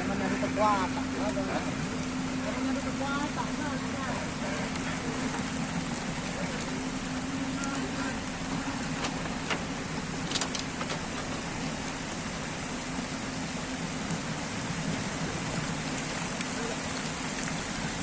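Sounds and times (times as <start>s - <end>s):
excavator engine running: 0.0s - 16.7s
rain falling: 0.0s - 18.0s.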